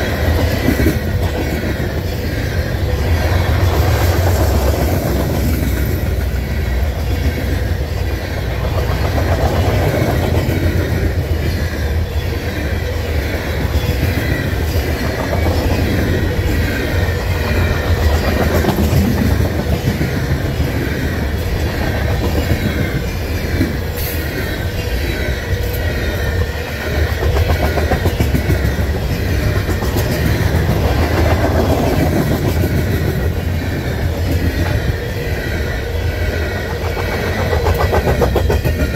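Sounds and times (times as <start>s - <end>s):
train wheels clattering on rails: 0.0s - 38.9s.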